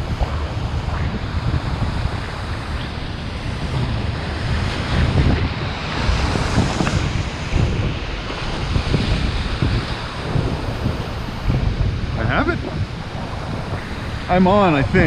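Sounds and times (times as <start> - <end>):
ocean surf washing on shore: 0.0 - 15.0
wind buffeting microphone: 0.0 - 15.0.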